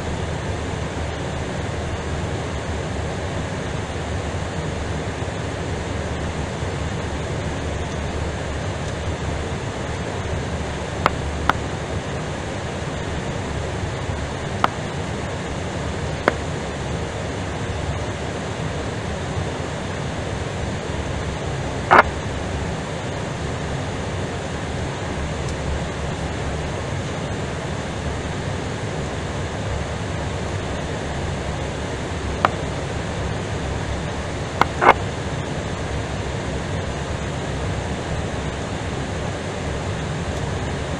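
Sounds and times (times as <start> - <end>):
aircraft cockpit rumble and hiss: 0.0 - 40.9.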